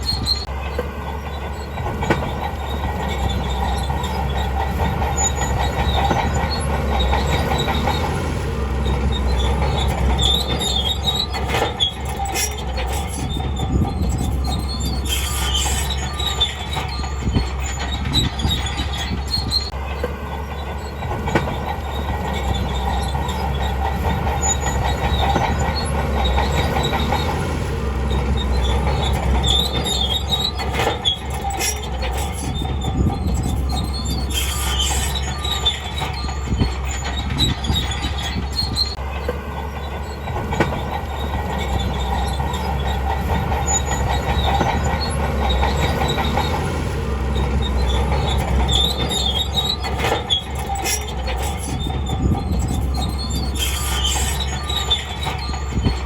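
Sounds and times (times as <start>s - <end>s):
bulldozer diesel engine rumbling: 0.0s - 56.0s
steel tracks squealing and clanking: 0.0s - 56.0s.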